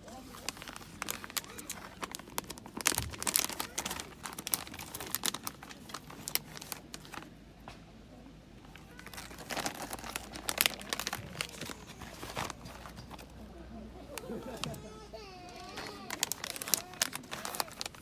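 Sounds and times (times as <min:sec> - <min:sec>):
packaging crinkling and rustling: 0:00.0 - 0:07.3, 0:08.6 - 0:18.0.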